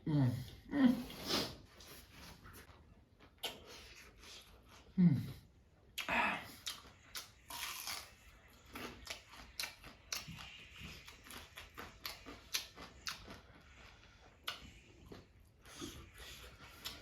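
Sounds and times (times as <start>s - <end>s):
person chewing food: 0.5s - 17.0s.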